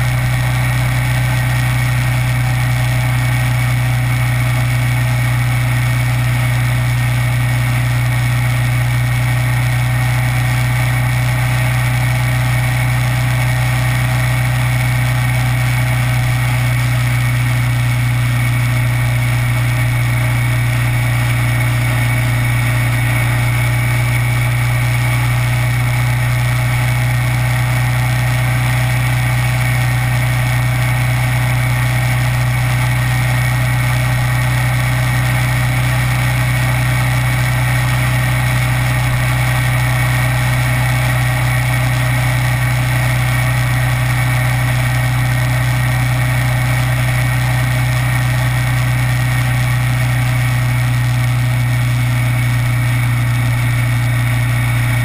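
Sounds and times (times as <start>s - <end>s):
motorcycle engine running steadily: 0.0s - 55.0s.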